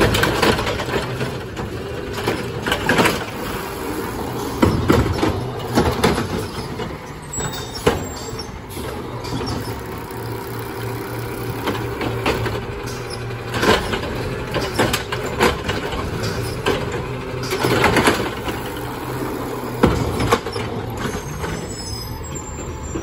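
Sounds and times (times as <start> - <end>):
clattering knocks of carts: 0.0 - 23.0
hydraulic arm working: 0.0 - 23.0
truck engine running: 0.0 - 23.0.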